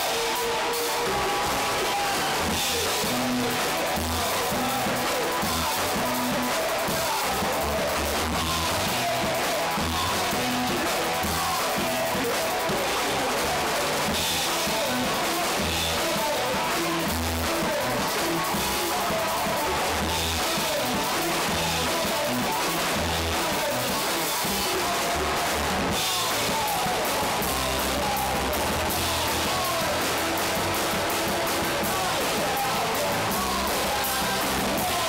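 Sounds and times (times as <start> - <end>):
band playing live: 0.0 - 35.0
drum kit: 0.0 - 35.0.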